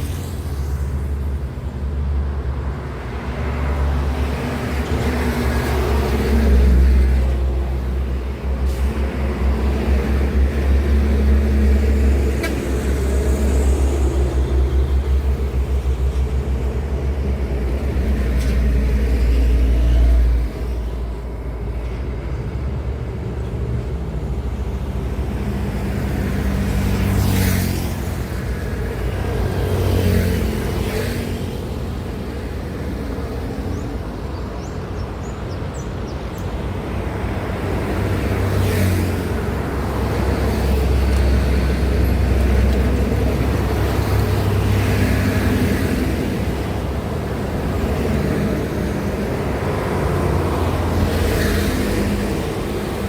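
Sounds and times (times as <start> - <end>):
heavy truck engine rumble: 0.0 - 53.0
road traffic noise: 0.0 - 53.0
vehicles passing: 0.0 - 53.0.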